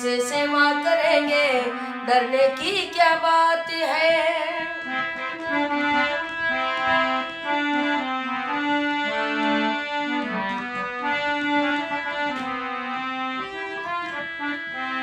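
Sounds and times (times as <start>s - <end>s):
steady musical accompaniment: 0.0s - 15.0s.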